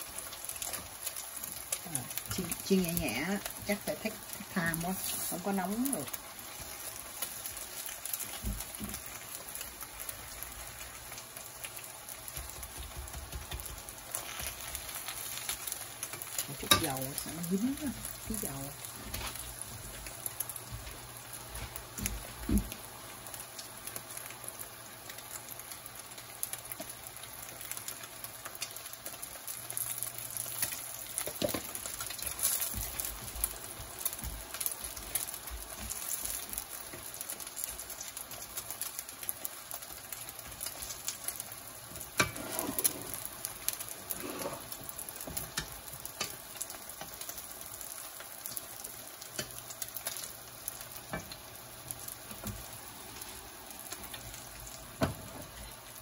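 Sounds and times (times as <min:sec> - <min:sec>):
oil sizzling and crackling: 0:00.0 - 0:56.0.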